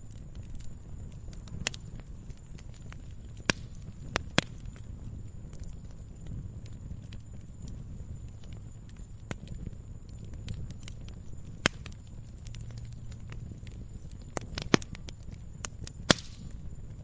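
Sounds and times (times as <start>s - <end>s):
firewood crackling and popping: 0.0s - 17.0s
wood fire rumbling: 0.0s - 17.0s.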